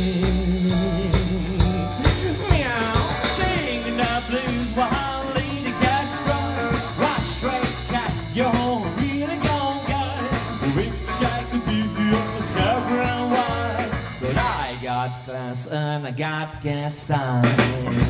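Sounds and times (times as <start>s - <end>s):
electric guitar: 0.0s - 15.5s
upright double bass: 0.0s - 18.0s.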